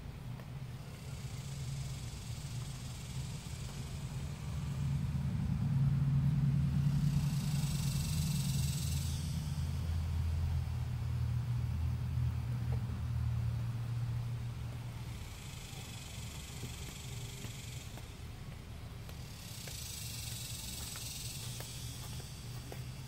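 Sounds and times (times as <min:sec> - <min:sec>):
low motor rumble: 0:00.0 - 0:23.0.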